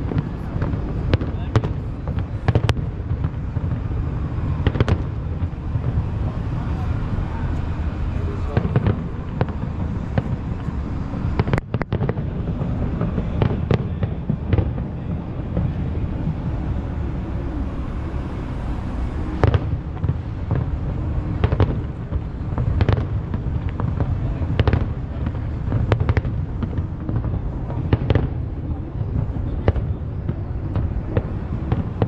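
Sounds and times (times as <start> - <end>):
low rumble: 0.0 - 32.0.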